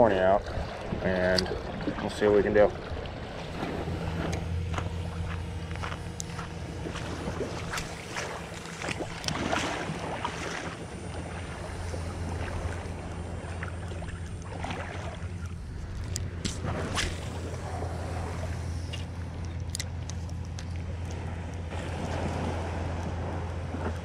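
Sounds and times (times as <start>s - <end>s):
boat engine humming: 0.0s - 24.0s
water splashing at shoreline: 0.0s - 24.0s.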